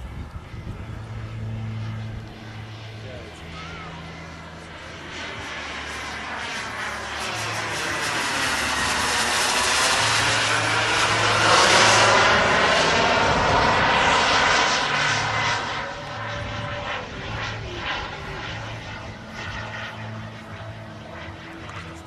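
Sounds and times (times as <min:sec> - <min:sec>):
model jet engines roaring past: 0:00.0 - 0:22.0.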